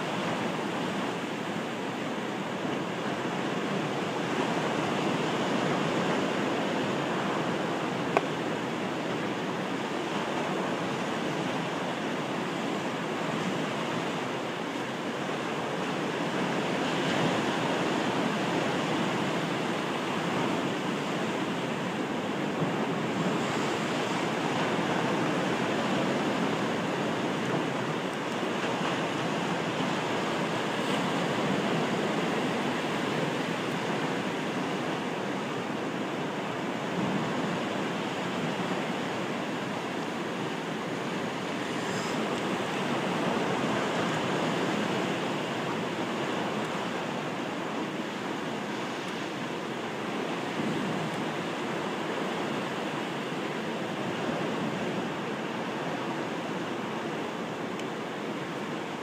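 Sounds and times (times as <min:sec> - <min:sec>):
surf washing over rocks: 0:00.0 - 0:59.0.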